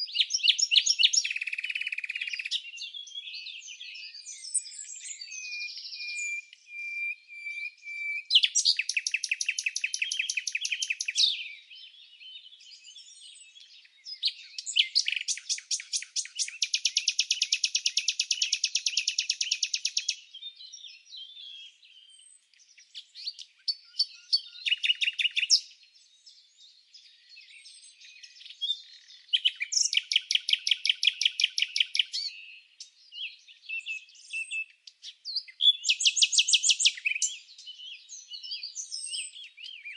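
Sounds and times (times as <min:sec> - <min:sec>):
songbird trilling: 0:00.0 - 0:25.8, 0:27.0 - 0:39.9
bird chirps: 0:00.0 - 0:39.9.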